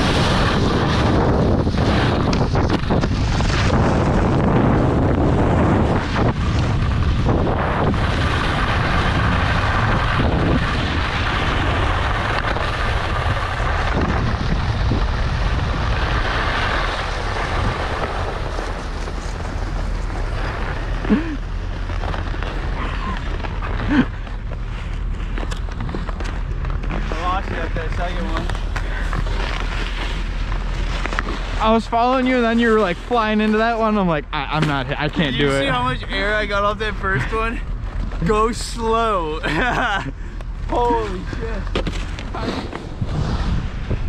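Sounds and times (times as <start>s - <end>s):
wind rushing over microphone: 0.0s - 33.5s, 40.0s - 44.0s
skis scraping on snow: 0.0s - 44.0s.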